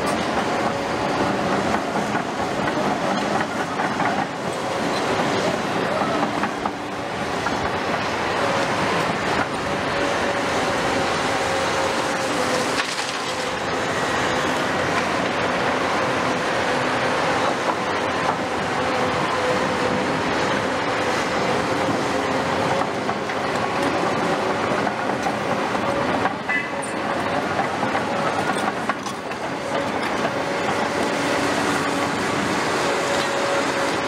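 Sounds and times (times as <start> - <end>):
excavator engines and hydraulics: 0.0 - 34.0.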